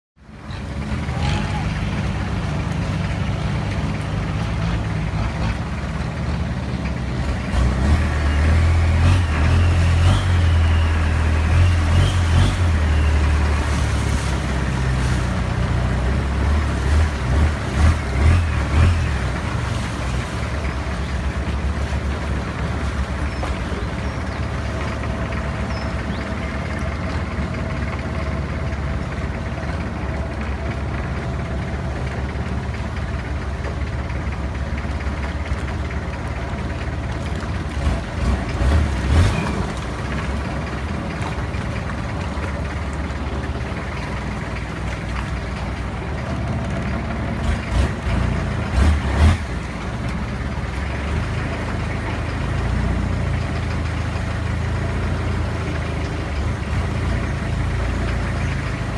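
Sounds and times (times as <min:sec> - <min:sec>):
boat engine running: 0:00.2 - 0:58.9.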